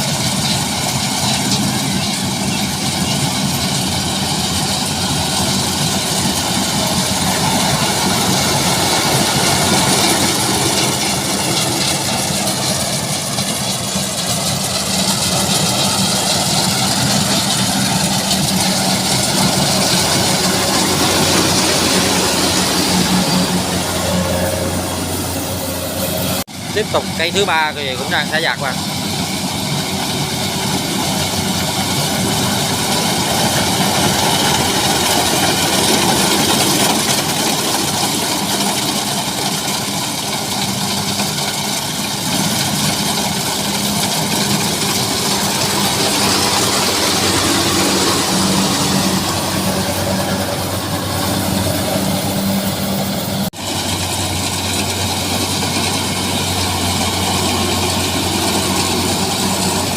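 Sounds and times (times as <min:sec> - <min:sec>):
combine harvester diesel engine: 0:00.0 - 0:59.9
dense mechanical cutting noise: 0:00.1 - 0:59.9.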